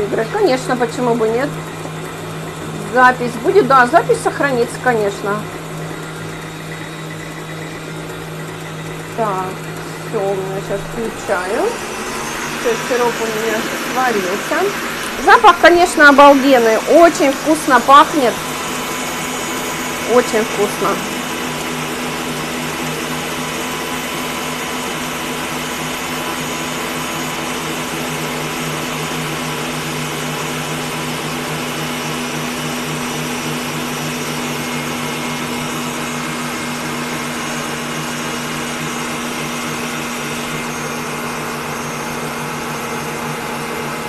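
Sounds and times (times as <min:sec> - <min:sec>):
stand mixer whirring: 0:00.0 - 0:44.0.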